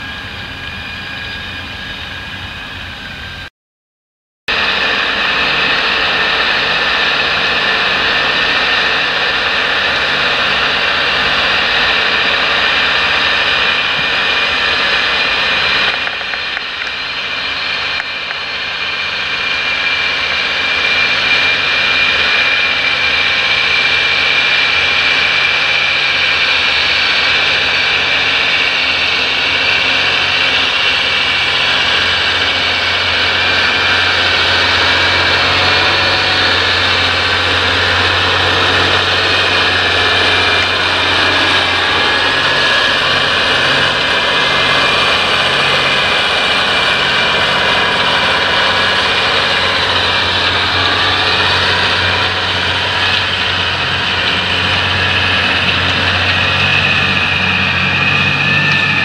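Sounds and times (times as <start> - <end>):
tractor diesel engine droning: 0.0 - 3.5, 4.5 - 59.0.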